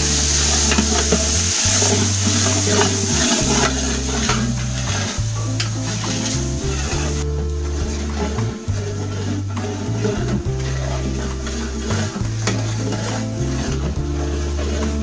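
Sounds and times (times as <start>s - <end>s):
background music with bass line: 0.0s - 15.0s
greens sizzling in hot oil: 0.0s - 15.0s
metal spatula scraping a pot: 0.0s - 15.0s.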